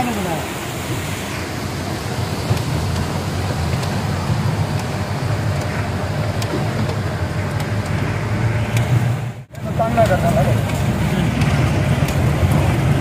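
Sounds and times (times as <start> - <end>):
car engine rumbling: 0.0 - 13.0
road noise: 0.0 - 13.0.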